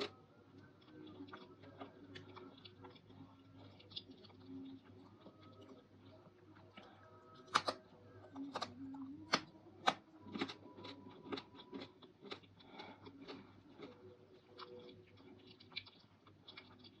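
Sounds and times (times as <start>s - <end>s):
crunching dried food: 0.0s - 17.0s.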